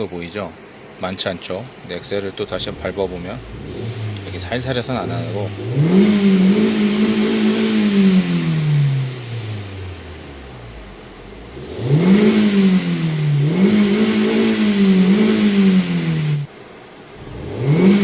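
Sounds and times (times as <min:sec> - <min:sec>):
car engine revving and misfiring: 0:02.4 - 0:18.0.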